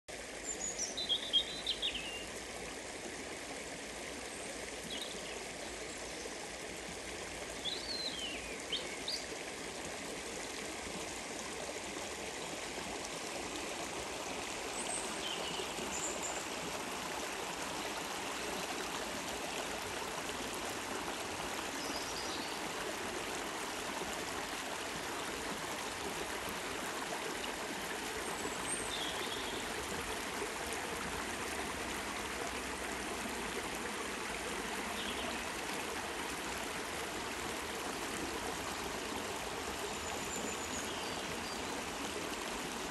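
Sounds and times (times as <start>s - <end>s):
stream burbling over rocks: 0.1s - 42.9s.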